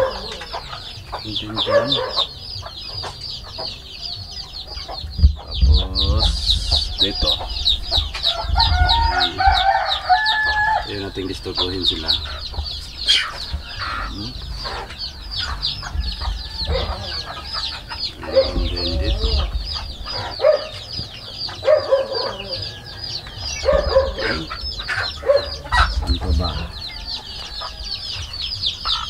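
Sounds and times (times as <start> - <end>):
chicks peeping: 0.0 - 29.0
hens clucking low: 0.0 - 29.0.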